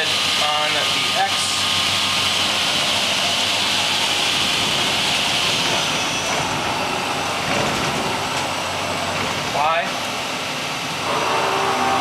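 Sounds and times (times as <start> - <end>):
machine whir and hiss: 0.0 - 12.0.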